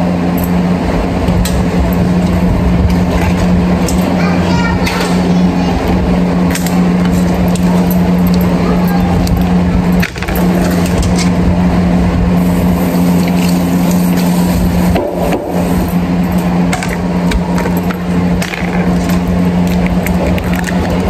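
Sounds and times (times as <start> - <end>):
loud mechanical hum: 0.0 - 21.0.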